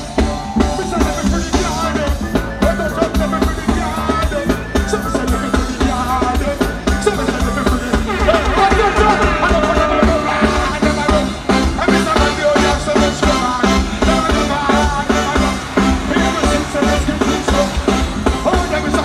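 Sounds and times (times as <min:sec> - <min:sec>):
drum kit beat: 0:00.0 - 0:19.0
live reggae band playing: 0:00.0 - 0:19.0.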